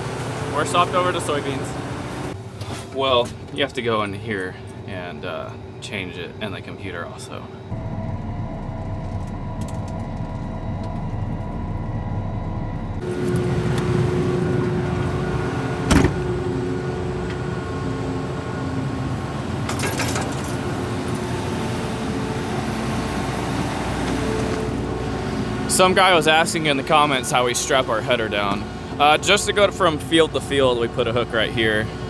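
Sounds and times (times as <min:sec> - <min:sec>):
combine engine running: 0:00.0 - 0:02.4, 0:07.7 - 0:32.0.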